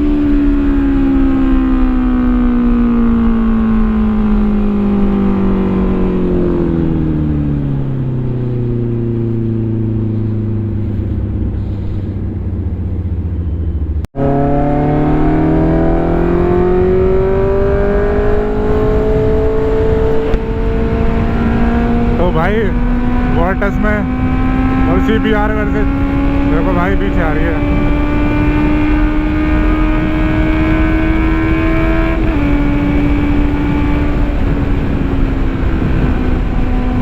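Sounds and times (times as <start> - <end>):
motorcycle engine: 0.0 - 37.0.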